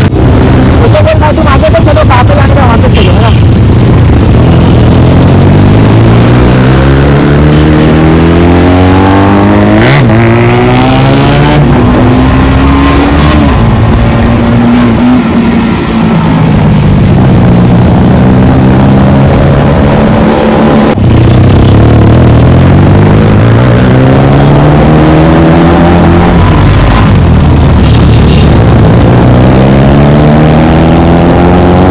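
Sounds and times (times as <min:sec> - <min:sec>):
motorcycle accelerating through gears: 0:03.4 - 0:31.9.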